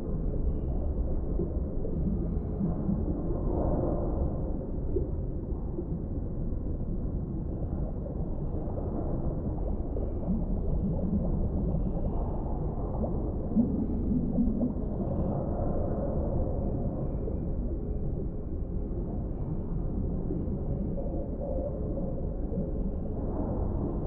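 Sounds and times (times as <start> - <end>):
muffled underwater rumble: 0.0 - 24.0
low warbling tones: 0.1 - 24.0.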